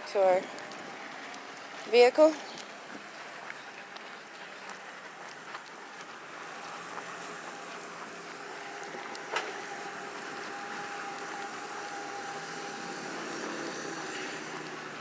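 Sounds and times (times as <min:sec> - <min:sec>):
vehicle traffic: 0:00.0 - 0:15.0.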